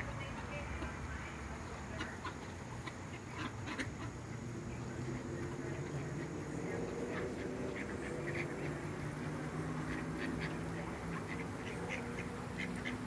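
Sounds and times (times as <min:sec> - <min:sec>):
steady low hum: 0:00.0 - 0:13.0
ducks quacking: 0:00.2 - 0:13.0.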